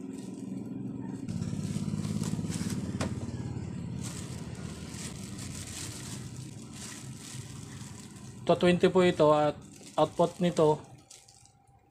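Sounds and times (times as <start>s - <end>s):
engine running: 0.0s - 10.9s
plastic wrapping crinkling: 0.0s - 11.9s.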